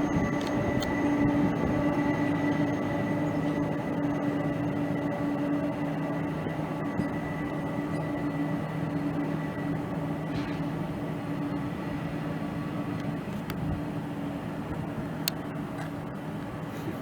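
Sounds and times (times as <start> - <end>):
faint high whine: 0.0 - 16.9
steady engine drone: 0.0 - 17.0.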